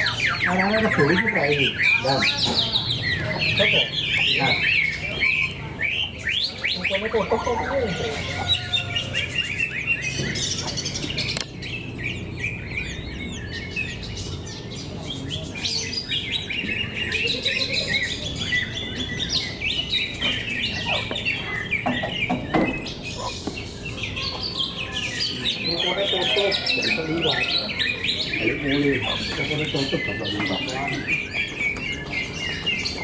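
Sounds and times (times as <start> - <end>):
birds chirping and whistling: 0.0 - 33.0.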